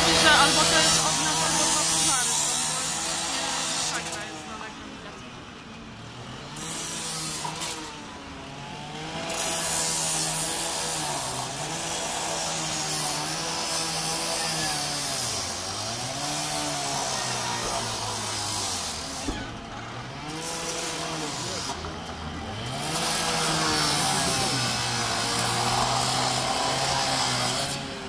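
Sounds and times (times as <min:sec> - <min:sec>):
hissing metal cutting: 0:00.0 - 0:05.2, 0:06.4 - 0:28.0
power saw engine: 0:00.0 - 0:28.0.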